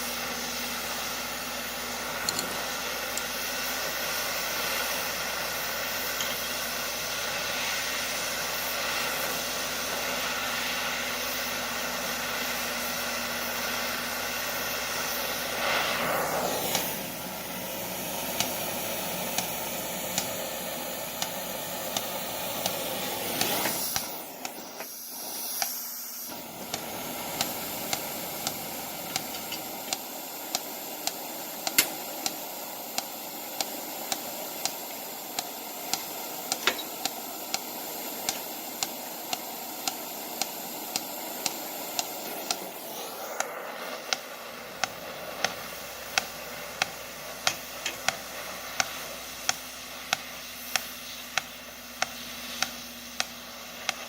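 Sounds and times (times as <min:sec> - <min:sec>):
torch hissing and popping: 0:00.0 - 0:54.0.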